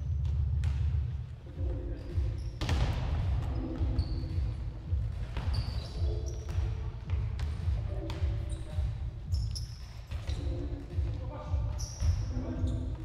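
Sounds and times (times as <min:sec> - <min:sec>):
ball impacts echoing: 0:00.1 - 0:13.0.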